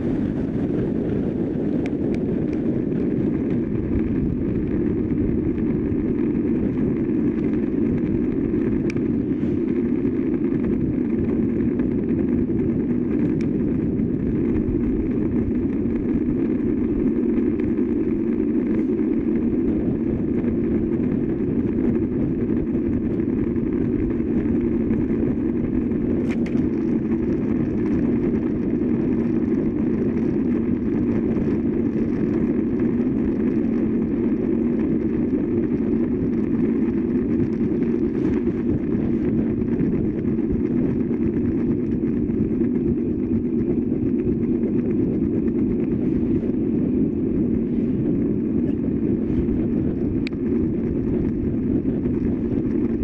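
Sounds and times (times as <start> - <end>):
bike tyres rolling on asphalt: 0.0 - 53.0
wind rushing over camera: 0.0 - 53.0.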